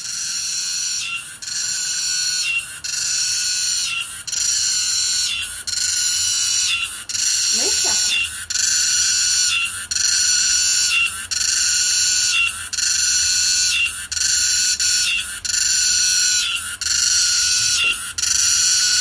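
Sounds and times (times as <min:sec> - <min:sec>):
cicada buzzing: 0:00.0 - 0:19.0.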